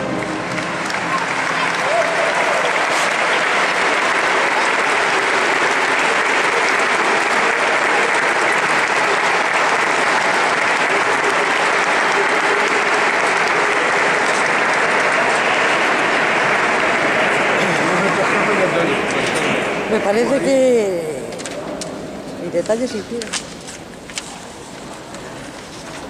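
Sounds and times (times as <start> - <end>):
audience applauding: 0.0 - 21.9.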